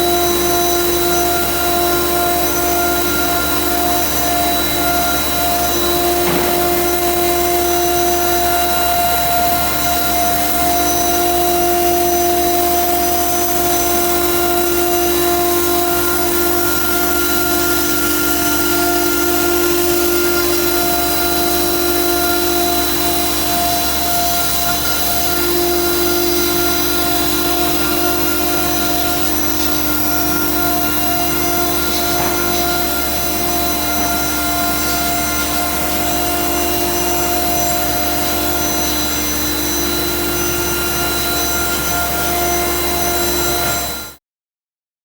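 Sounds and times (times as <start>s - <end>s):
router spindle high whine: 0.0s - 44.2s.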